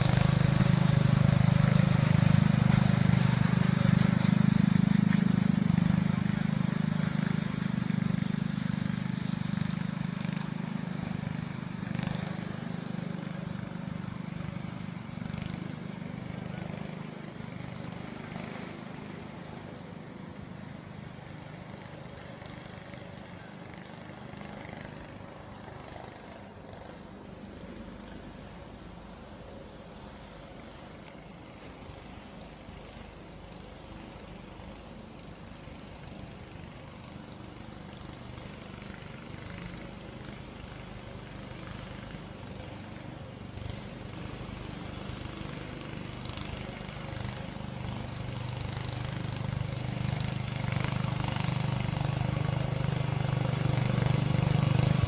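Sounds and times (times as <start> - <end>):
snowmobile engine droning: 0.0 - 28.8, 36.0 - 55.0.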